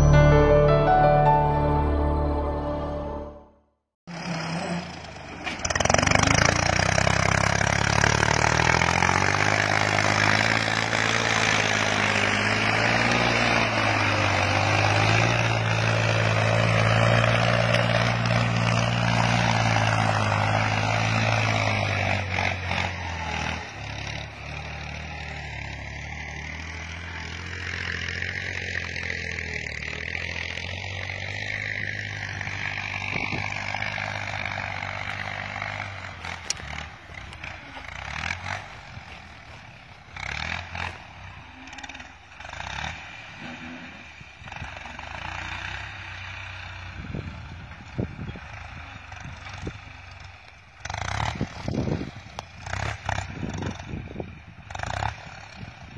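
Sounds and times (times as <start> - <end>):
tractor diesel engine under load: 0.0 - 3.5, 4.1 - 55.9.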